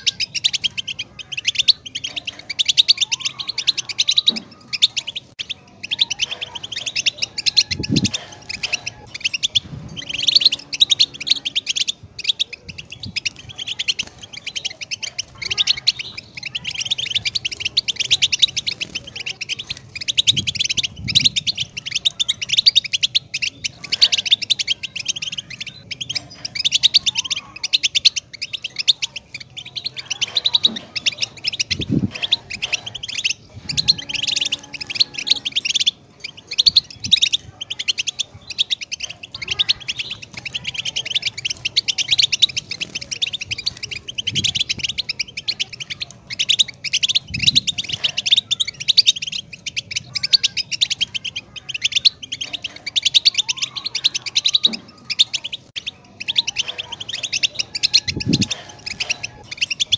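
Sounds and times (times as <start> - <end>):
finch twittering song: 0.0 - 59.9.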